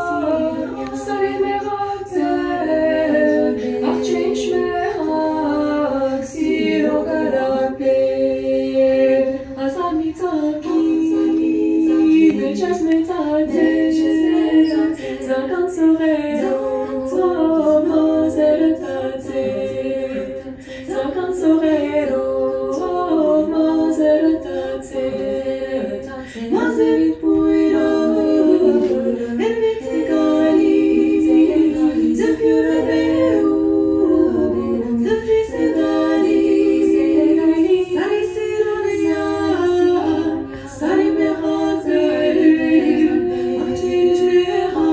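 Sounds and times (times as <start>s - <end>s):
choir singing in harmony: 0.0s - 44.9s.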